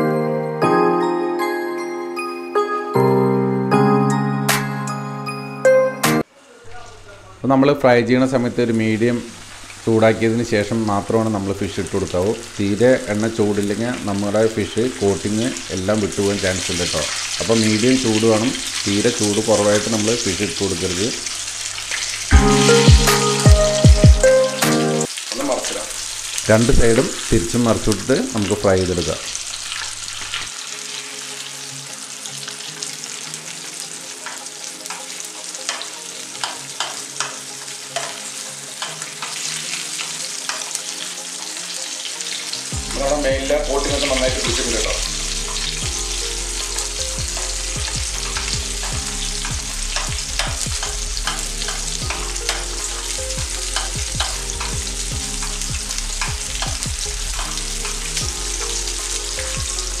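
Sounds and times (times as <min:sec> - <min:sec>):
fish sizzling in oil: 0:06.2 - 1:00.0
oil popping and crackling: 0:08.3 - 0:22.4, 0:25.0 - 1:00.0.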